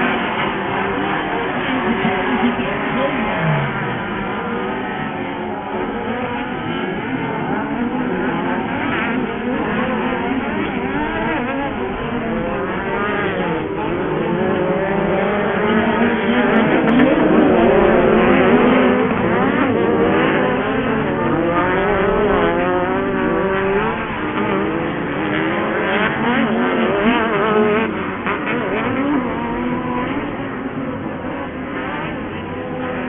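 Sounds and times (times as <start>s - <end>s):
racing buggy engines revving: 0.0s - 33.0s.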